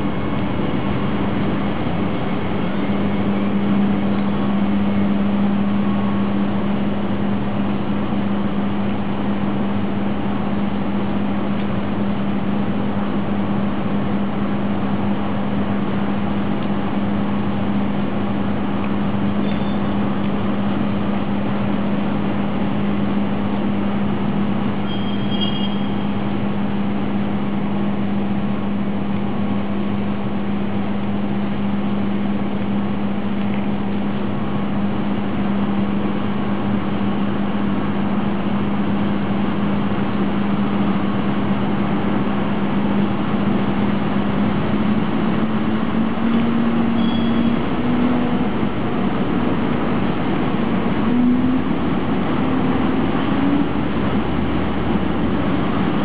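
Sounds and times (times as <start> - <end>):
constant hum: 0.0 - 56.0
freight train wheels rumbling on rail: 0.0 - 56.0.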